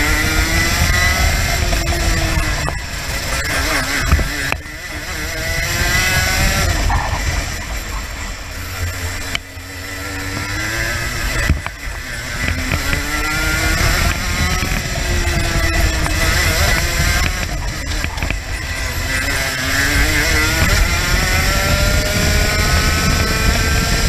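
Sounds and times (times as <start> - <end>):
kart engine revving: 0.0 - 24.0.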